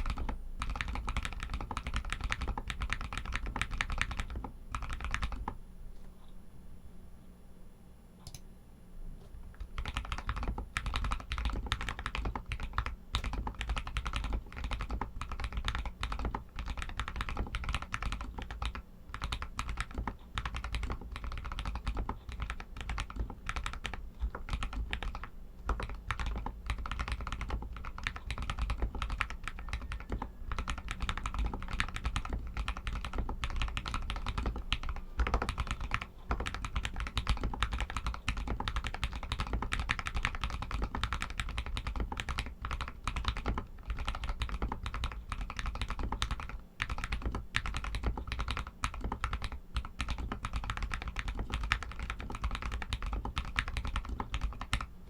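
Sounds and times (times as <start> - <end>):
mechanical keyboard typing: 0.0 - 5.6, 9.5 - 54.9.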